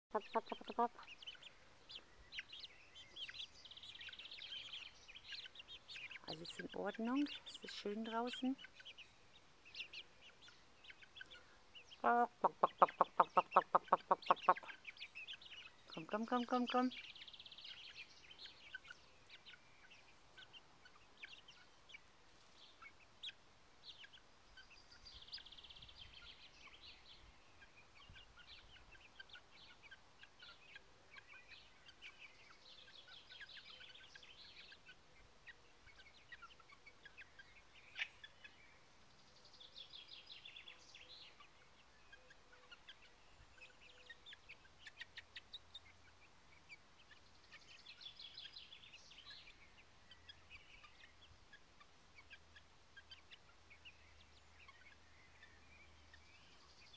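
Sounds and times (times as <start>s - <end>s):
chicks peeping and trilling: 0.1s - 56.9s.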